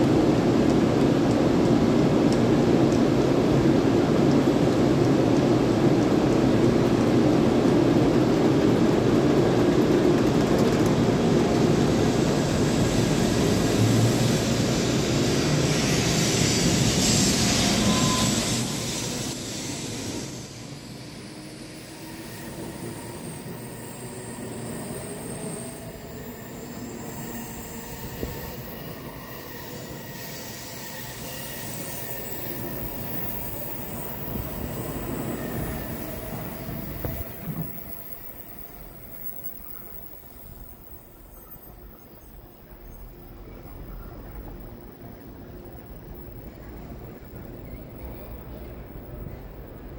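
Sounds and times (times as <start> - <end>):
faint rising train whine: 0.0 - 49.9
train rolling past rumbling: 0.0 - 49.9.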